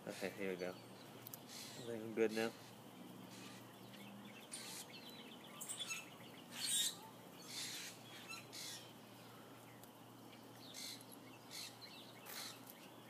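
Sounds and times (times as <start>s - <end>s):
faint bird chirps: 0.2s - 13.0s.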